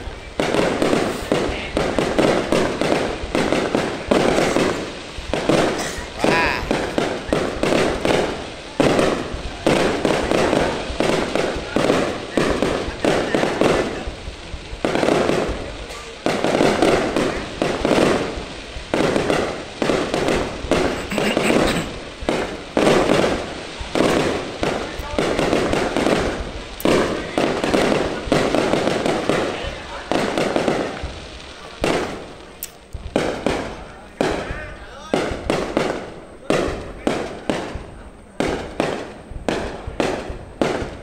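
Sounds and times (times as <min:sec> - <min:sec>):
fireworks bursting: 0:00.0 - 0:41.0
fireworks crackling: 0:00.0 - 0:41.0.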